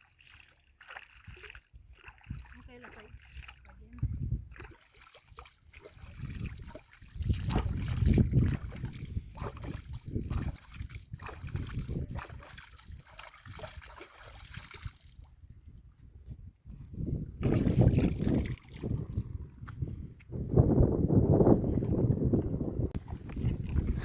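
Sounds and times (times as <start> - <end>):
water sloshing and splashing: 0.0 - 15.8, 17.2 - 19.9, 23.0 - 24.0.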